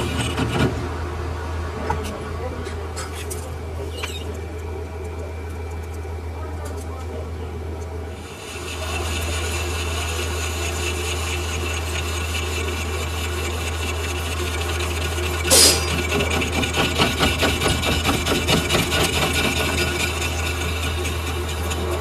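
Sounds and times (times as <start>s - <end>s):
metal scraping on turning work: 0.0s - 1.0s, 1.8s - 6.1s, 8.1s - 22.0s
lathe motor hum: 0.0s - 22.0s.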